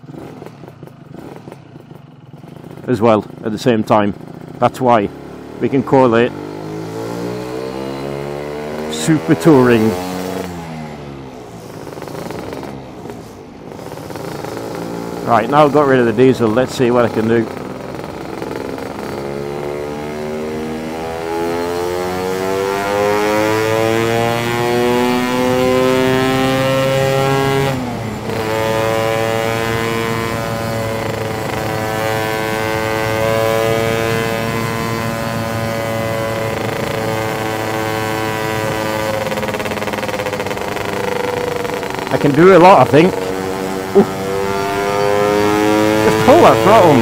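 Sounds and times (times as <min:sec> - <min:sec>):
scooter engine revving: 0:00.0 - 0:47.0.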